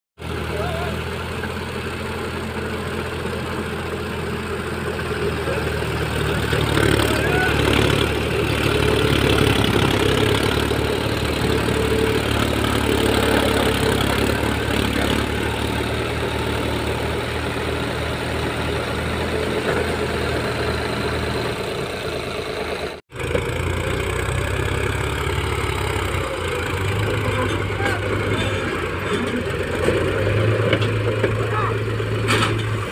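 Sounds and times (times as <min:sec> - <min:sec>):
diesel tractor engines under load: 0:00.2 - 0:32.9.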